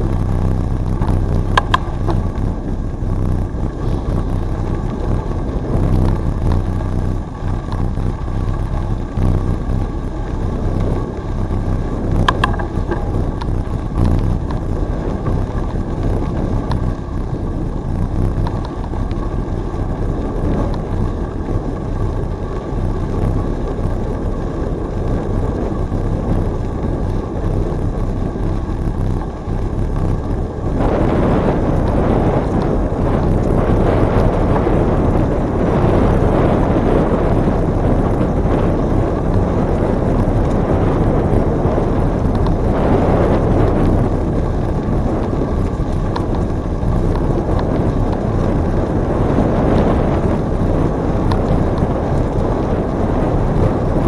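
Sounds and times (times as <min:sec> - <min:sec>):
bicycle tyres humming on trail: 0:00.0 - 0:54.0
wind rushing over microphone: 0:00.0 - 0:54.0.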